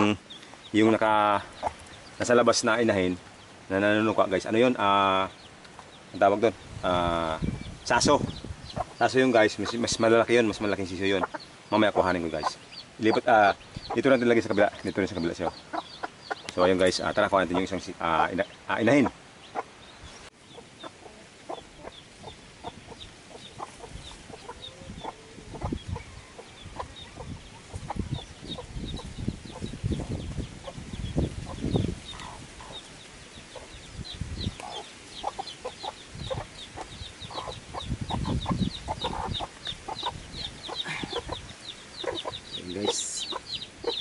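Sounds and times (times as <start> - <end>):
chicks peeping: 0.0 - 44.0
hen clucking: 0.0 - 44.0.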